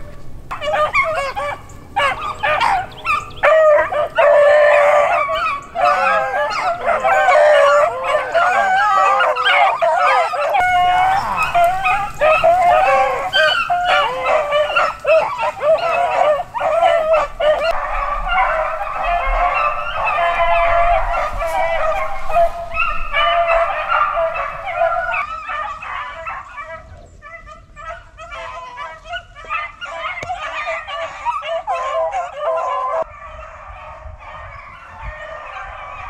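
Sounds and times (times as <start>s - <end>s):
dogs baying: 0.0s - 36.0s.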